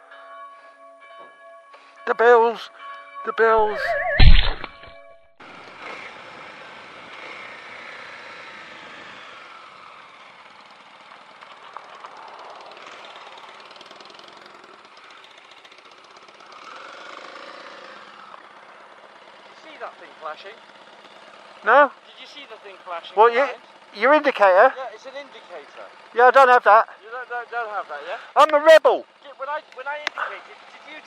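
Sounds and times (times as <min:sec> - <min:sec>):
motorcycle engine at low speed: 0:04.2 - 0:28.3, 0:29.1 - 0:31.0.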